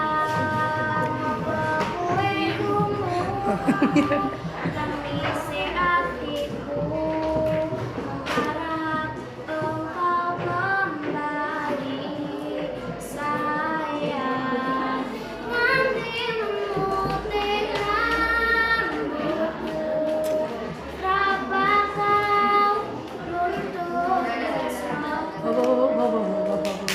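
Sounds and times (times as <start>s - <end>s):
girl singing: 0.0s - 26.9s.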